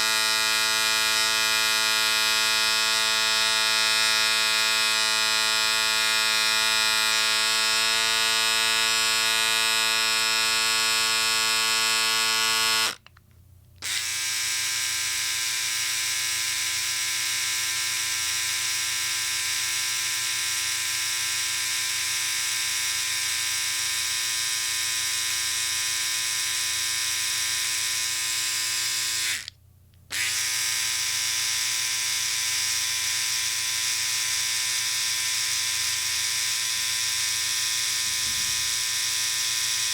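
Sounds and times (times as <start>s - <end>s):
electric shaver buzzing: 0.0s - 13.0s, 13.8s - 29.5s, 30.1s - 39.9s.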